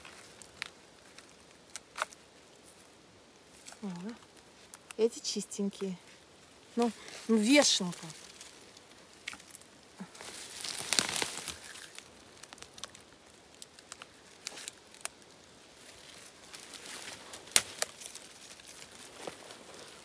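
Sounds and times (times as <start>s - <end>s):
mushrooms tearing off wood: 0.0s - 2.8s, 6.1s - 20.0s.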